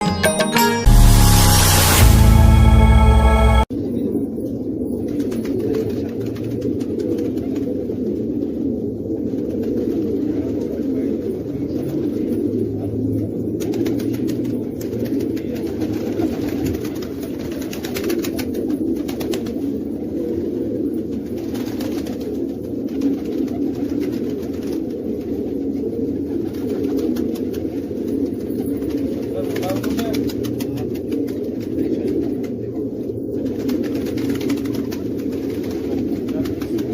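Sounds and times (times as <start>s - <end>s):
pigeons cooing: 3.8s - 36.9s.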